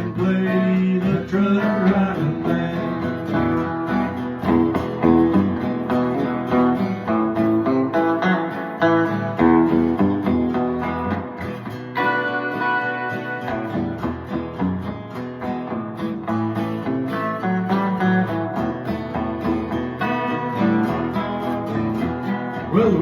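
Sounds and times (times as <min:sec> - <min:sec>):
picked guitar melody: 0:00.0 - 0:23.0
strummed acoustic guitar: 0:00.0 - 0:23.0.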